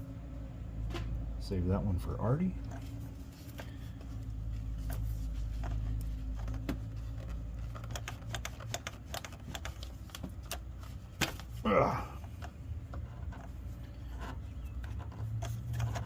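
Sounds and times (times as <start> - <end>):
steady low hum: 0.0 - 16.0
hands handling hoses and parts: 2.6 - 16.0.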